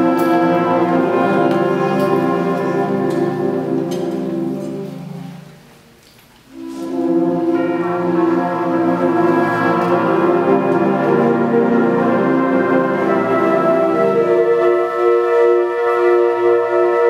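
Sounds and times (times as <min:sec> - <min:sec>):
concert band brass and woodwinds: 0:00.0 - 0:17.0.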